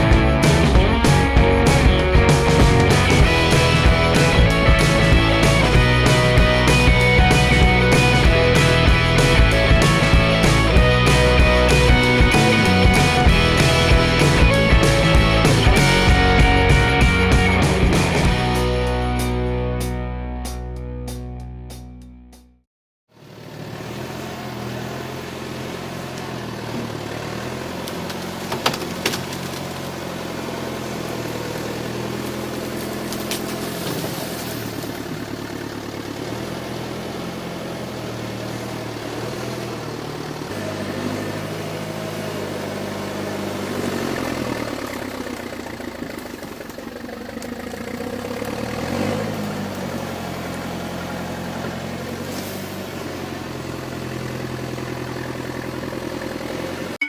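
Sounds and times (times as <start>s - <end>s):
backhoe engine running: 0.0s - 21.7s, 23.2s - 57.0s.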